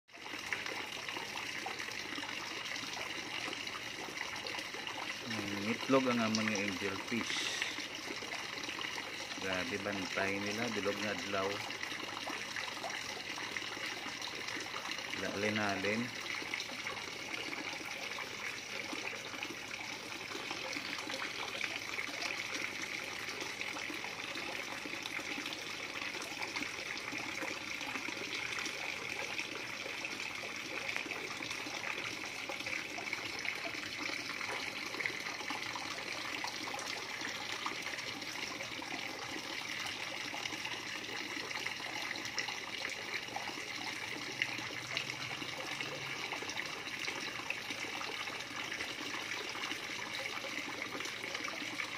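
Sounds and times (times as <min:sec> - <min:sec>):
water trickling and bubbling: 0:00.1 - 0:51.9.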